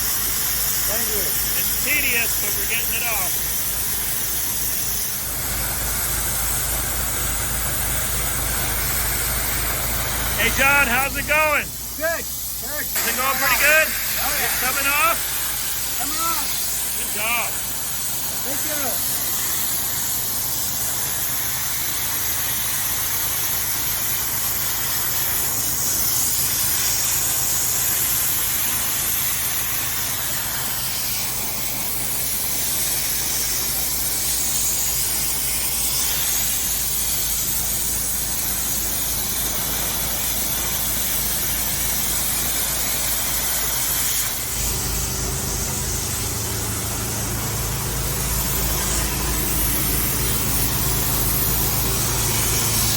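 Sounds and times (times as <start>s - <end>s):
pressure washer engine running: 0.0s - 52.9s
water jet hissing on wood: 0.0s - 52.9s.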